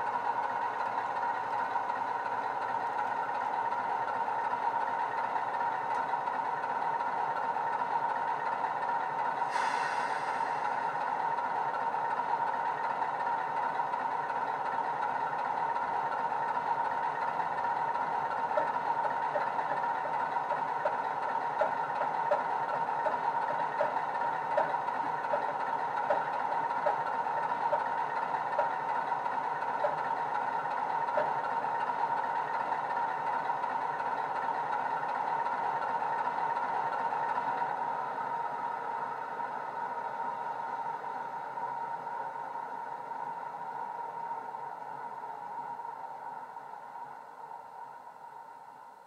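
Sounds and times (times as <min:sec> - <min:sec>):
diesel engine idle from small speaker: 0:00.0 - 0:43.9.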